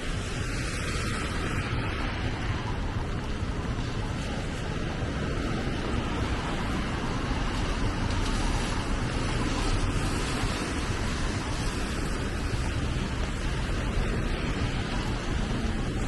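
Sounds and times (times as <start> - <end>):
rain falling on street: 0.0 - 16.0.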